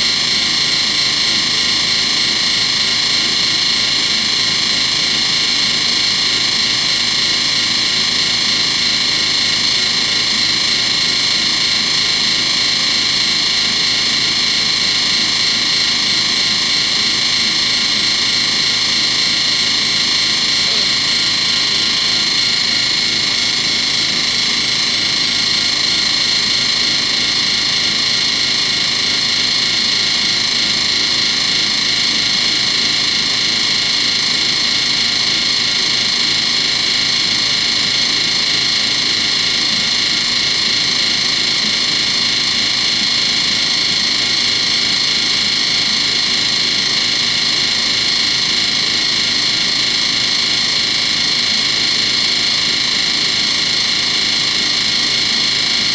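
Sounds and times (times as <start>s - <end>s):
washing machine high-pitched whine: 0.0s - 55.9s.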